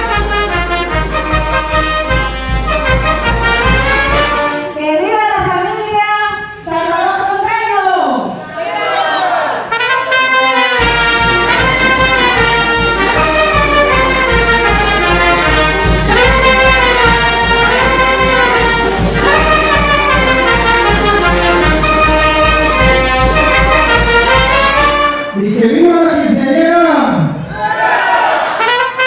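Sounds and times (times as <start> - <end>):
brass band playing dance tune: 0.0 - 5.2, 9.3 - 29.0.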